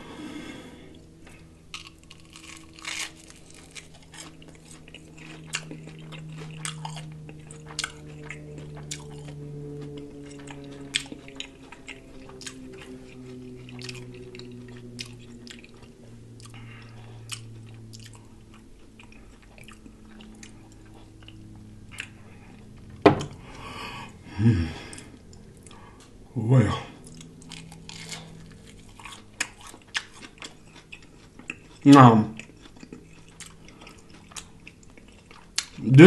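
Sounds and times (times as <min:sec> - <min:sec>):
low hum: 0:00.0 - 0:36.0
chewing crispy food: 0:00.6 - 0:24.0, 0:24.6 - 0:36.0.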